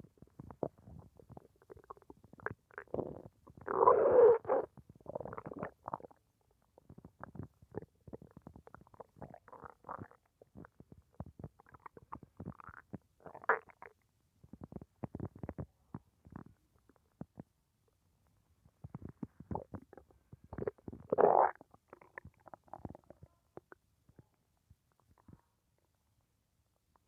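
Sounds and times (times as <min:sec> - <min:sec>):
stomach gurgling: 0:00.0 - 0:17.6, 0:18.6 - 0:25.9.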